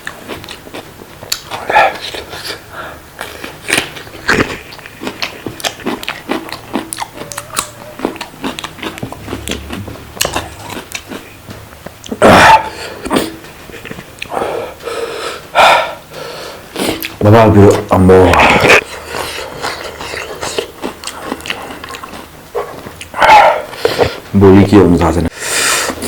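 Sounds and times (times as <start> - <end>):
close-miked chewing and biting: 0.0 - 2.6, 3.2 - 14.4, 16.8 - 24.2.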